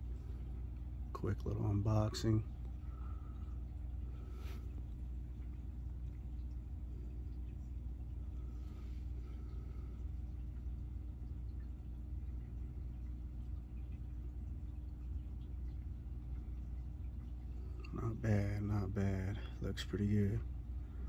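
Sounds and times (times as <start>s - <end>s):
faint constant hum: 0.0s - 21.0s
steady low rumble: 0.0s - 21.0s.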